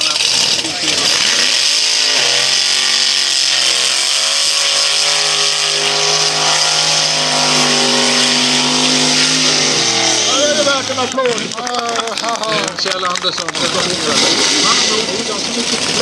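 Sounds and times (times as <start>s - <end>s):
tyres screeching: 0.0s - 11.3s, 13.5s - 16.0s
car engine revving hard: 0.0s - 11.6s, 13.6s - 16.0s.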